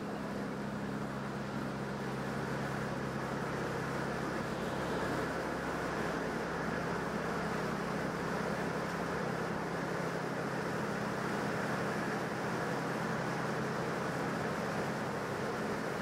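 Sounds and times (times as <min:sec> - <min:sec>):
ship engines humming: 0:00.0 - 0:16.0.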